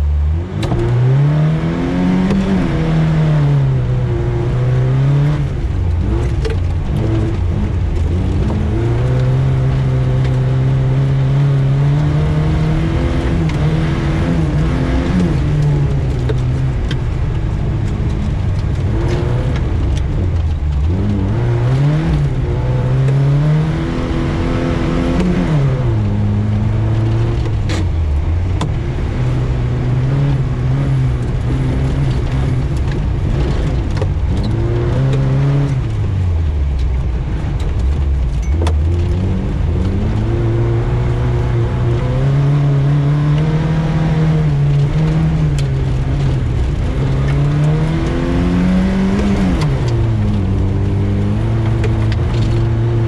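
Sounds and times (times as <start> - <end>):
car engine accelerating: 0.0 - 53.0
tyre and road noise: 0.0 - 53.0.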